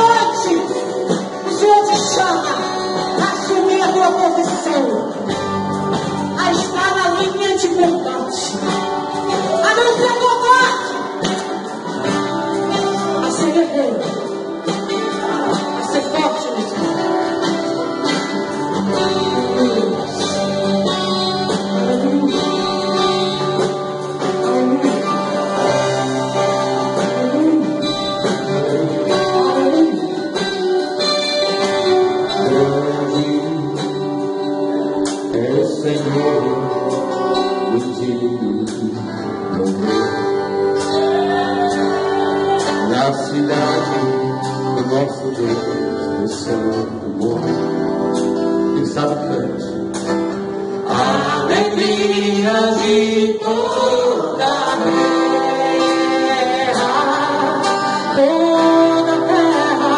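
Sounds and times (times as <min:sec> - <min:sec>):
person singing: 0:00.0 - 0:49.8, 0:50.8 - 0:59.9
guitars: 0:00.0 - 0:59.9.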